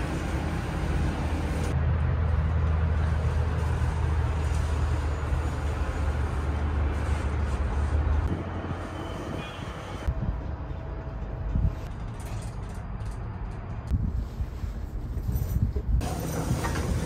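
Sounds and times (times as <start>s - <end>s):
cable car cabin humming: 0.0s - 17.0s.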